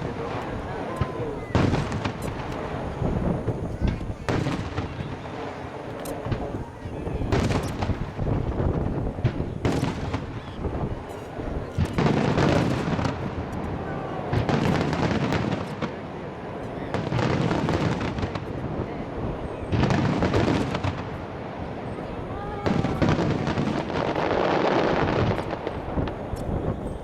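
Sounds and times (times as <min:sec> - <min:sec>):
fireworks bursts and booms: 0:00.0 - 0:27.0.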